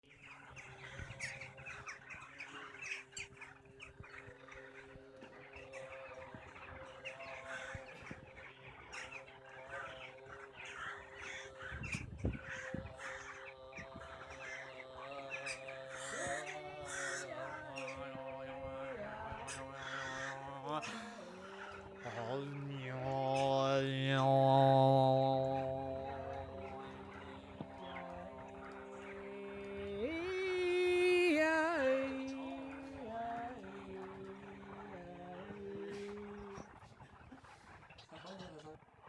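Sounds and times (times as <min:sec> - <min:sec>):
bird calls chatter: 0:00.0 - 0:39.0
crows cawing: 0:00.1 - 0:38.6.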